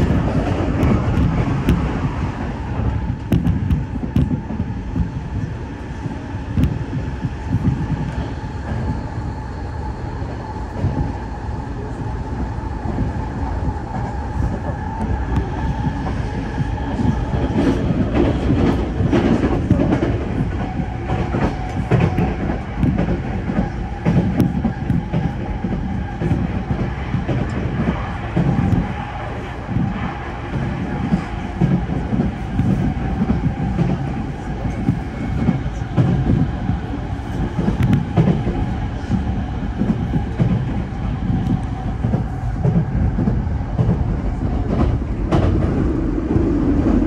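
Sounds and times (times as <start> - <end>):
rail joint clicks: 0.0 - 9.1, 11.8 - 47.0
steady train whine: 0.0 - 47.0
train wheels rumbling on rails: 0.0 - 47.0.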